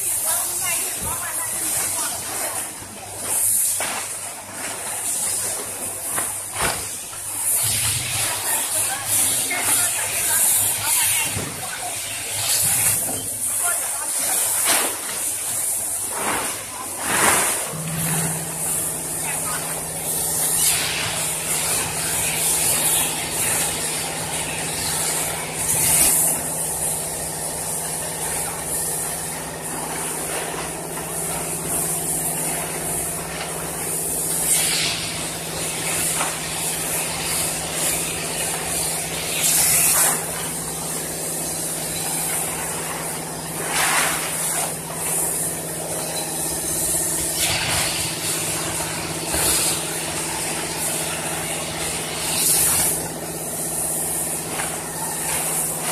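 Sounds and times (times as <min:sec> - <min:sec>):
welding machine humming and hissing: 0:00.0 - 0:55.9
plastic sheet rustling: 0:00.2 - 0:29.0, 0:29.7 - 0:55.9.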